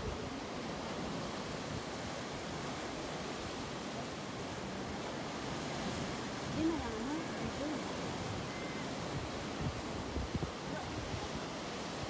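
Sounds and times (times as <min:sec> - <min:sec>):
waves washing against rocks: 0:00.0 - 0:12.0.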